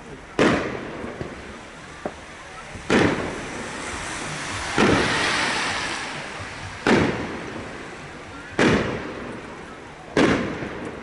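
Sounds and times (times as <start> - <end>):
fireworks bursting: 0.0 - 11.0
hiss of fireworks: 0.0 - 11.0.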